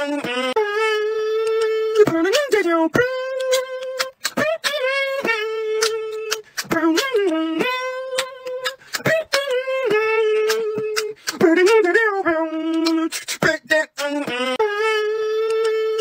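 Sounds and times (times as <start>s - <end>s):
mouth percussion clicks and pops: 0.0s - 16.0s
sung vocal tone: 0.0s - 16.0s.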